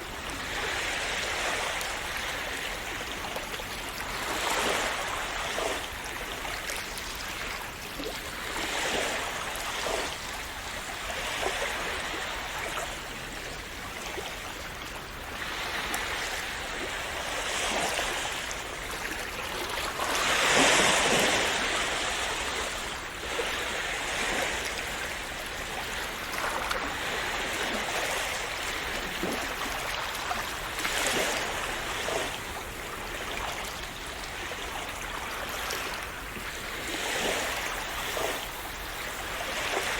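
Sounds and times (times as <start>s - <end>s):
sea waves splashing: 0.0s - 39.9s.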